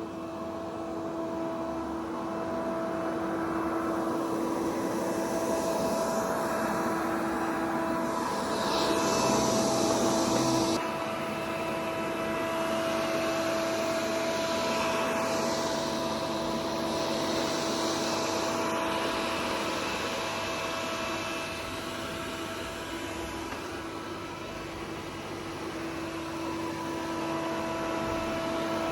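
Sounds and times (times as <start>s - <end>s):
robot vacuum cleaner running: 0.0s - 28.9s.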